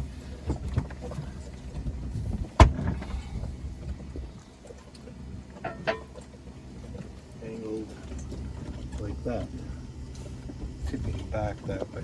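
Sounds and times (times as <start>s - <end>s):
wind and boat rumble: 0.0s - 12.0s.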